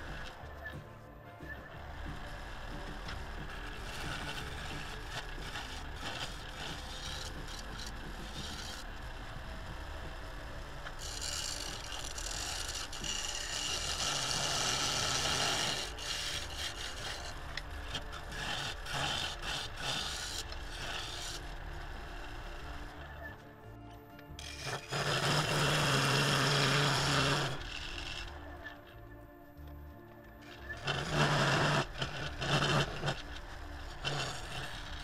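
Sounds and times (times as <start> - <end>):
turning tool cutting wood: 0.0 - 0.8, 1.4 - 23.5, 24.3 - 28.8, 30.6 - 35.0
wood lathe humming: 0.0 - 29.0, 30.6 - 35.0.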